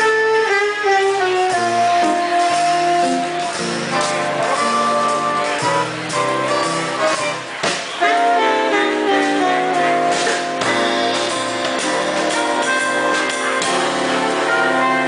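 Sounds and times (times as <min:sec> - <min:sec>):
swing jazz band playing: 0:00.0 - 0:15.0.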